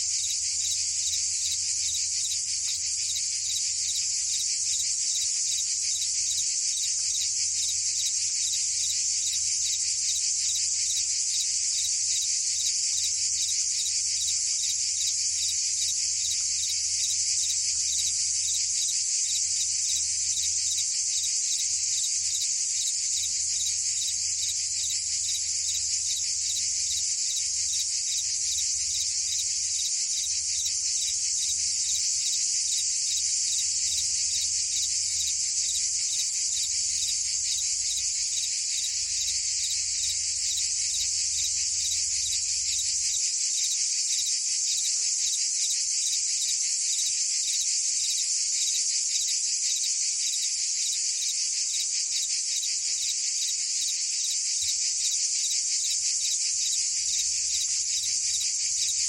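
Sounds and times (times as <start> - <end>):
cicadas and crickets chirring: 0.0 - 59.0.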